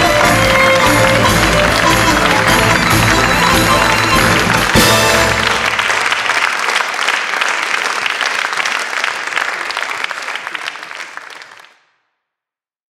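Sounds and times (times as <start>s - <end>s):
crowd applause: 0.0s - 11.8s.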